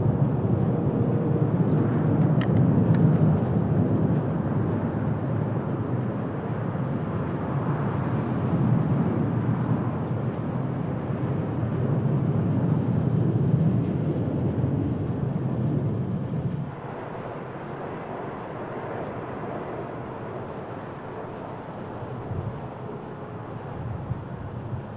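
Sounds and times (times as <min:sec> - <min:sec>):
jet engines rumbling: 0:00.0 - 0:24.9.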